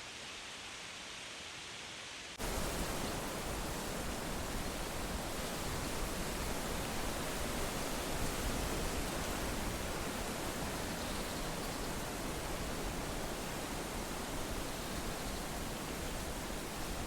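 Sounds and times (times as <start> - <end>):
wind rustling leaves: 0.0 - 17.0.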